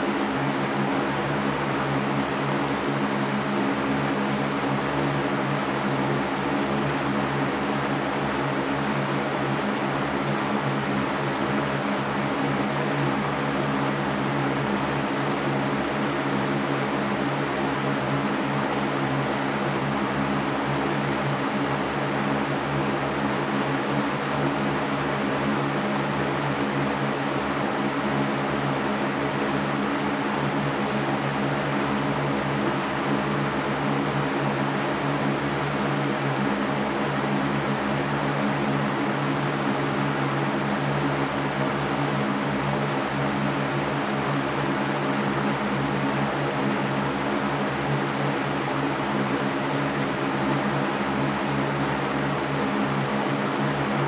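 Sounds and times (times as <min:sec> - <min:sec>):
floor fan running: 0:00.0 - 0:54.0.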